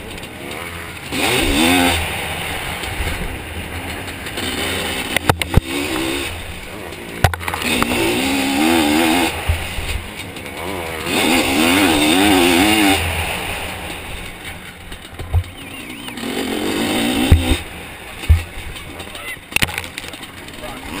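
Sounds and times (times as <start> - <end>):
sharp thumps: 0.0 - 20.6
two-stroke engine revving: 0.0 - 21.0.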